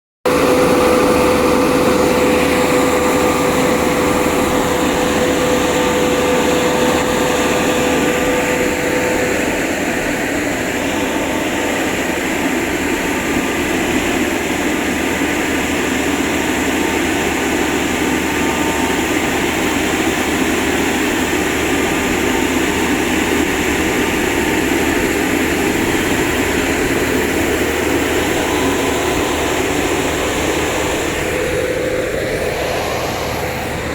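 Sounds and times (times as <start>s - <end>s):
drilling rig machine drone: 0.2s - 33.9s
machine whine: 0.2s - 33.9s.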